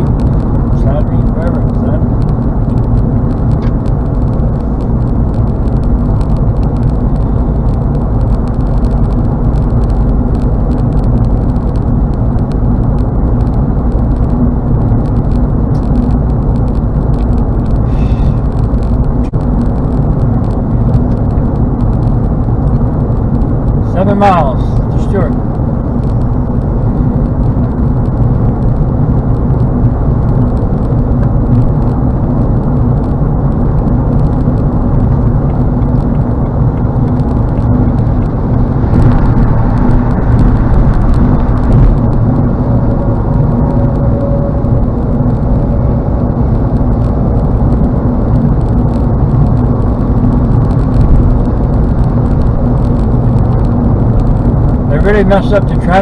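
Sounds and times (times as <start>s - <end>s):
car road noise in cabin: 0.0s - 56.0s.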